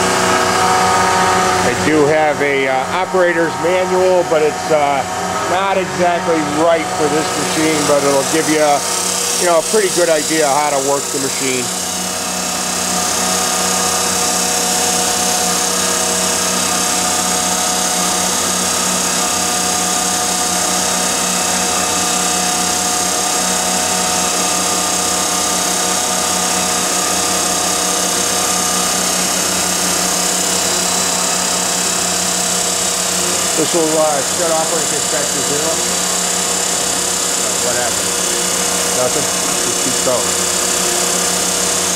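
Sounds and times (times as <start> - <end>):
grinder machine humming: 0.0 - 41.9
grinding spindle whine: 0.0 - 41.9.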